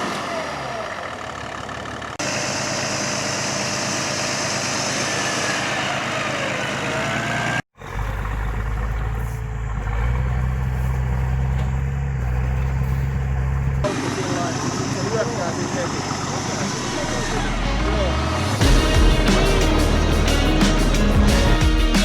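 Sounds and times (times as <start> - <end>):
off-road vehicle engines running: 0.0 - 22.0.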